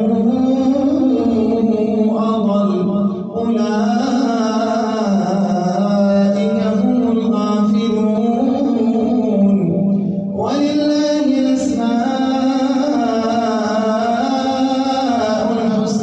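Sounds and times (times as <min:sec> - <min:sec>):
man chanting melodic recitation: 0:00.0 - 0:16.0.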